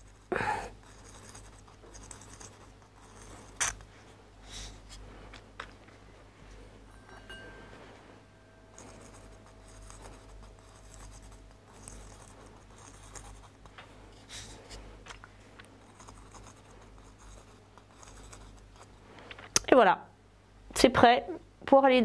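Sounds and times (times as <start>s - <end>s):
nozzle scratching on clay pot: 0.0s - 5.3s, 6.5s - 19.2s.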